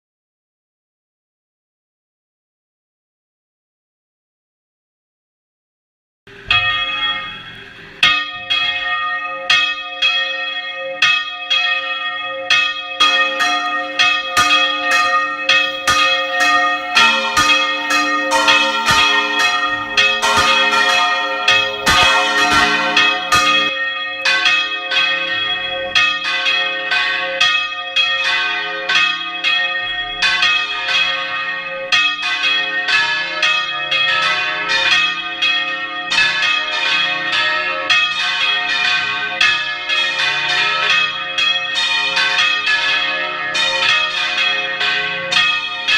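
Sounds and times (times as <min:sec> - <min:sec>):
church bells ringing: 0:06.3 - 0:45.9.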